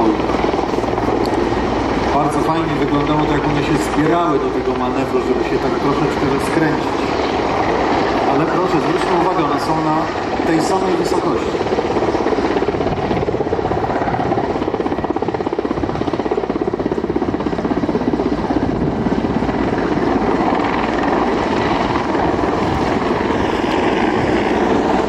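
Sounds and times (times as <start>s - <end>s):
helicopter rotor blades beating: 0.0s - 25.0s.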